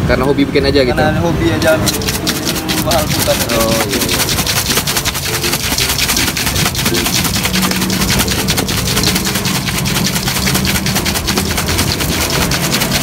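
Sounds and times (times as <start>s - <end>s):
small engine rattling: 1.5s - 13.0s.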